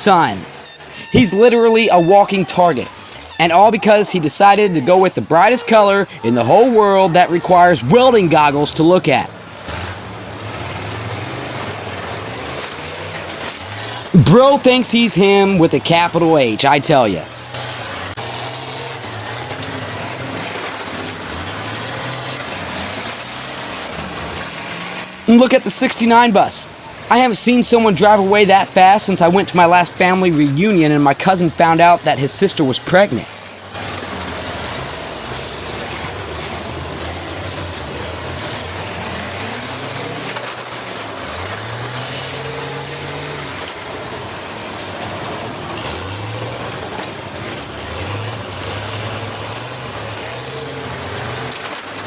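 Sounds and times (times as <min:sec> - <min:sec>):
arena noise: 0:00.0 - 0:52.0
bus engines revving: 0:00.0 - 0:52.0
steady background noise: 0:00.0 - 0:52.0.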